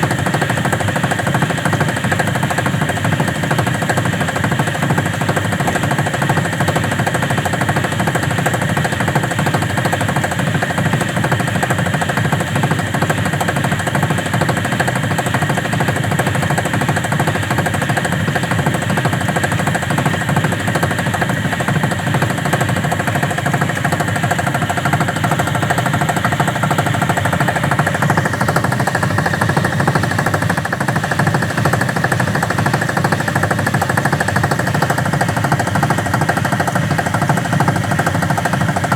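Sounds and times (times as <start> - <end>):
washing machine spinning and rattling: 0.0 - 38.9.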